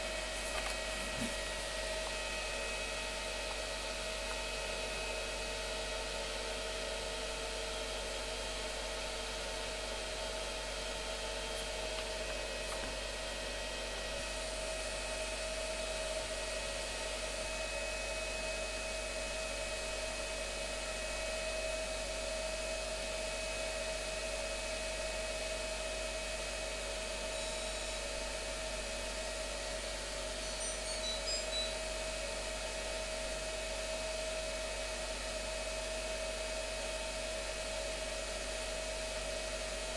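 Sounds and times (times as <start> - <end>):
washing machine whirring: 0.0 - 18.2, 26.0 - 39.9.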